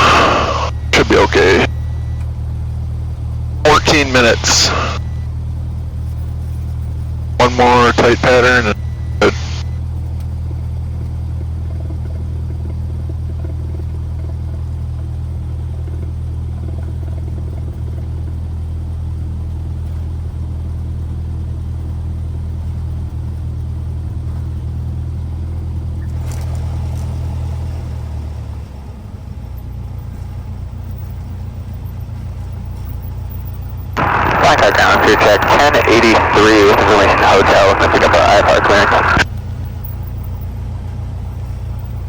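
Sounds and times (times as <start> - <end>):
airplane engine drone in cockpit: 0.0 - 42.0.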